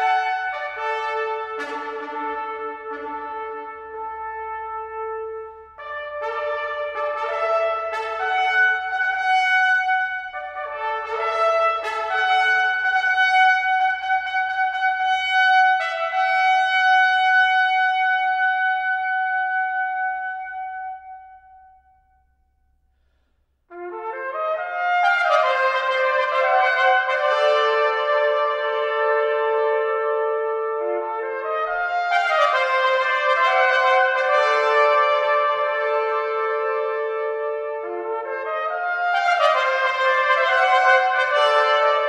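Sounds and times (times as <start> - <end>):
trumpets playing slow chords: 0.0 - 21.4, 23.0 - 42.0.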